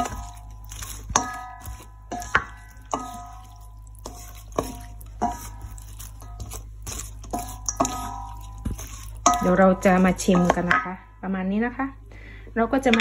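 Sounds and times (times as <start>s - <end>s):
wet squelch of salad dressing: 0.0s - 10.7s
spatula knocking metal bowl: 0.0s - 11.1s.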